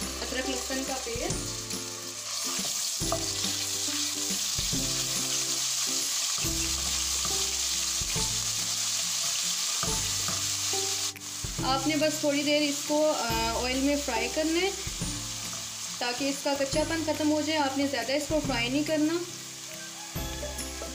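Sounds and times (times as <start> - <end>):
paste sizzling in hot oil: 0.0 - 20.9.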